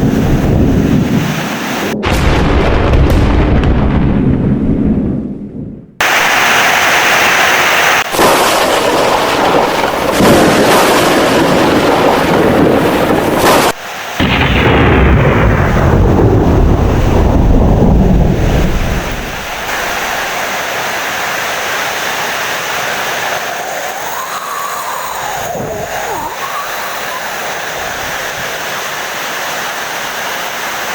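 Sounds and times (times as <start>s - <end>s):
heavy rain: 0.0s - 2.0s, 6.0s - 30.9s
thunder rumbling: 0.0s - 7.3s, 8.0s - 20.6s, 23.0s - 28.6s.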